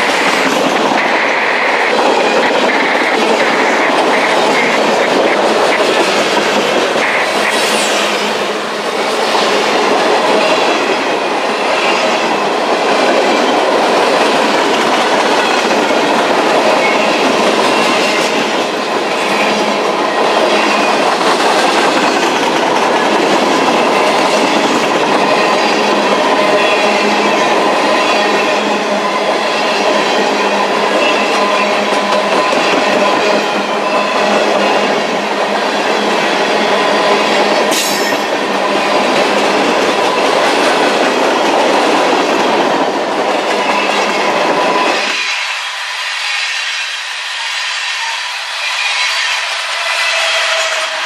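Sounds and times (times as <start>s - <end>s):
train wheels clattering on rails: 0.0s - 51.0s.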